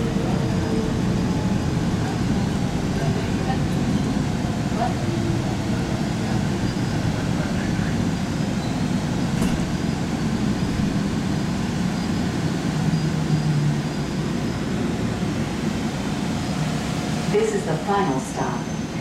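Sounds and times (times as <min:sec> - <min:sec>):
people-mover train rumbling: 0:00.0 - 0:19.0.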